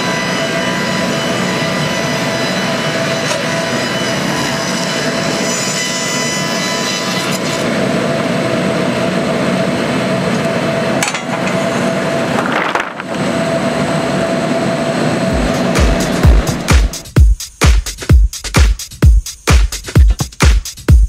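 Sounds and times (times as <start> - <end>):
sawmill machinery with constant whine: 0.0 - 17.1.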